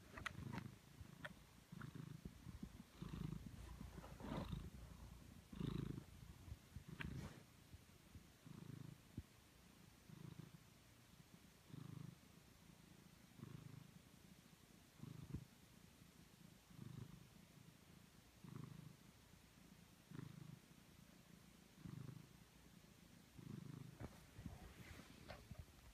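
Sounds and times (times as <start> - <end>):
cat purring: 0.0 - 25.9.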